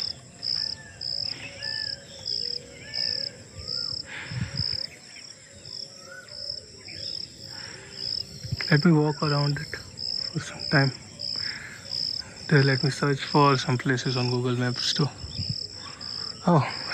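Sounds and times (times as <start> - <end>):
insects chirping: 0.0 - 16.9.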